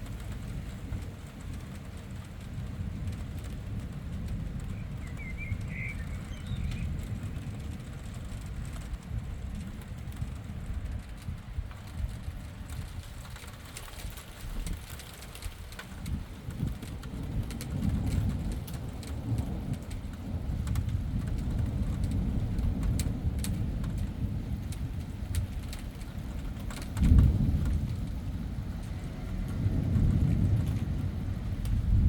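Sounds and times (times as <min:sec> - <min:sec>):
rain: 0:00.0 - 0:32.0
raindrops ticking: 0:00.0 - 0:32.0
thunder rumbling: 0:00.0 - 0:32.0.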